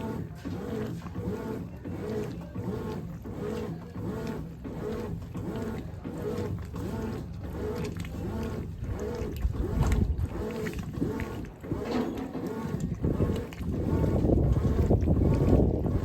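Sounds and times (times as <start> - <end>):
washing machine swishing: 0.0 - 16.0.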